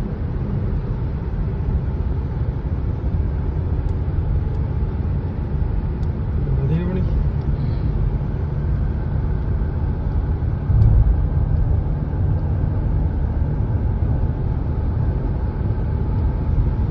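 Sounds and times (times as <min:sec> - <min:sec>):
road vehicle rumble: 0:00.0 - 0:16.9.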